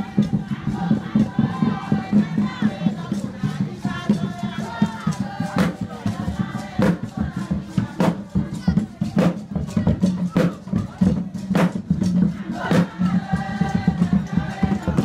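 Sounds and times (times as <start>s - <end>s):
group of voices chanting: 0.0s - 15.0s
pulsing beat: 0.0s - 15.0s
sharp percussion strikes: 0.0s - 15.0s.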